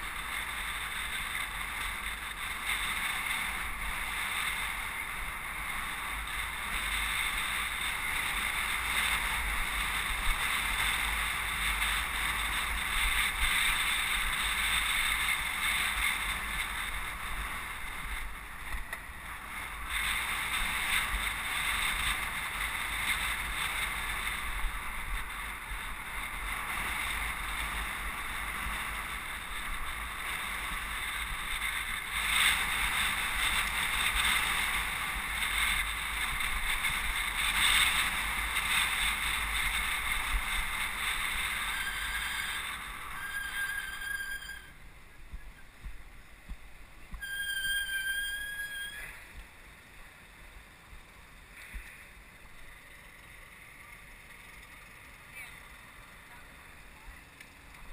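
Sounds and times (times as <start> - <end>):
bicycle road noise: 0.0 - 57.9
city traffic: 0.0 - 57.9.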